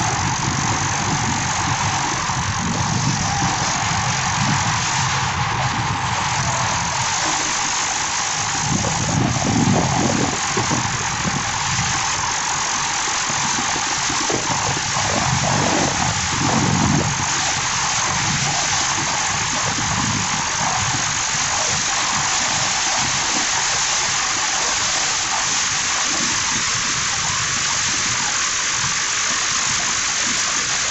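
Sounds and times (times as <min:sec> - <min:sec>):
wind over microphone: 0:00.0 - 0:30.9.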